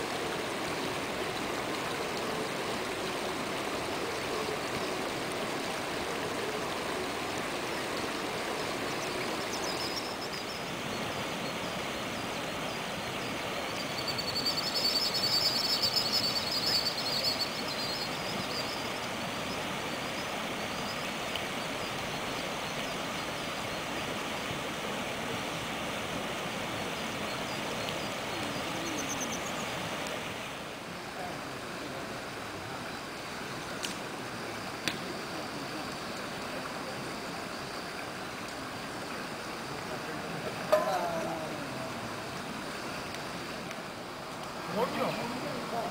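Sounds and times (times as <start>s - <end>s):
river water rushing over gravel: 0.0s - 45.9s.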